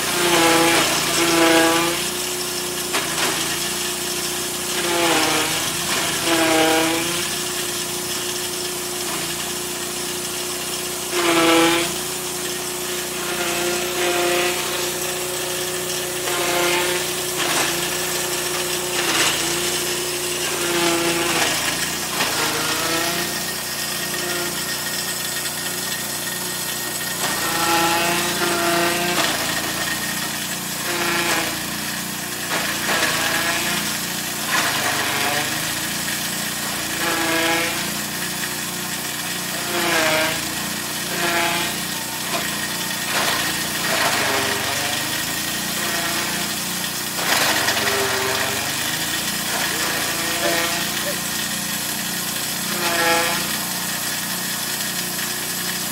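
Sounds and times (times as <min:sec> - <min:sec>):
chaff cutter chopping stalks: 0:00.0 - 0:55.9
grain mill grinding: 0:00.0 - 0:55.9
small petrol engine labouring: 0:00.0 - 0:55.9.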